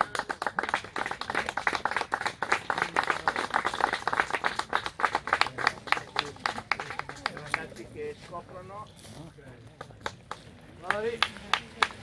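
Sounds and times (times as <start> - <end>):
people applauding: 0.0 - 7.8, 9.8 - 12.0.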